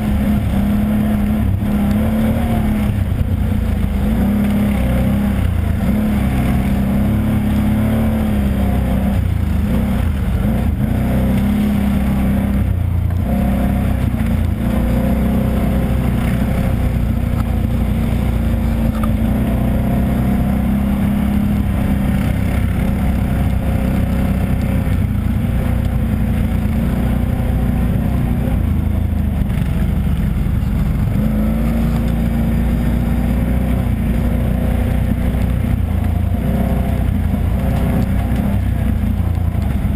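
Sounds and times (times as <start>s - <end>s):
atv engine running under load: 0.0s - 39.9s
trail noise: 0.0s - 39.9s
wind: 0.0s - 39.9s.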